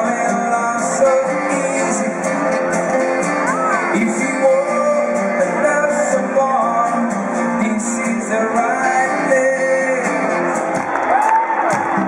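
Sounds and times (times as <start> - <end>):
live rock band playing: 0.0 - 12.0
strummed guitar: 0.0 - 12.0.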